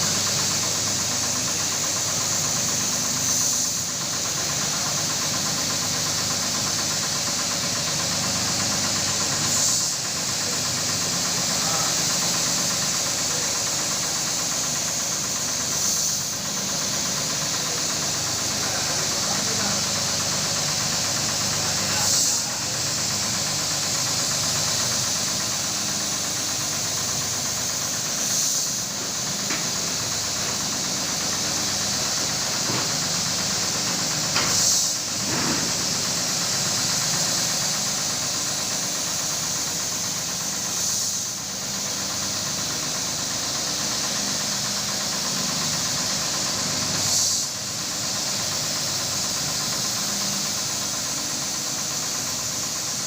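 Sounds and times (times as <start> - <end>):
carpet-washing machine running: 0.0 - 53.0.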